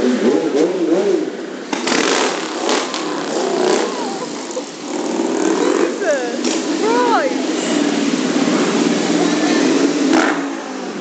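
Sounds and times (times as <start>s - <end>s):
motorcycle engines running: 0.0s - 11.0s
motorcycle revving: 0.0s - 11.0s.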